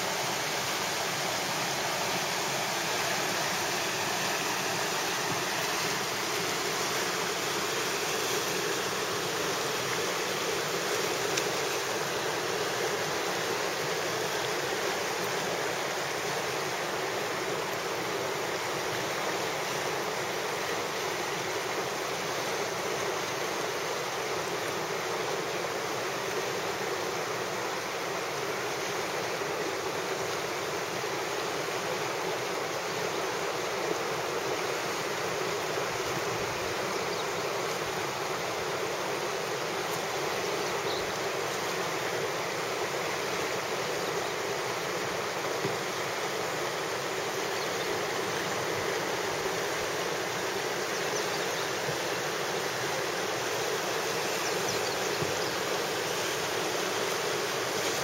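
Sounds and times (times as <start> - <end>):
river rapids rushing over rocks: 0.0 - 58.0.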